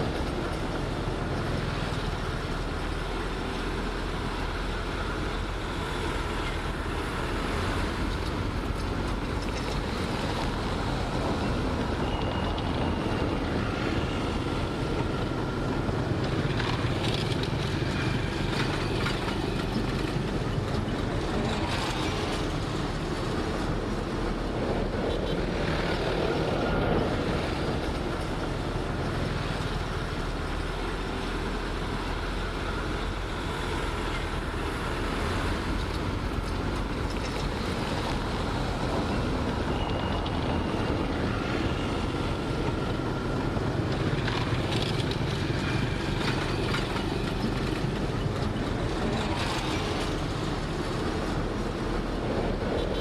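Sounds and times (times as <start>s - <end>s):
diesel machinery rumbling: 0.0s - 53.0s.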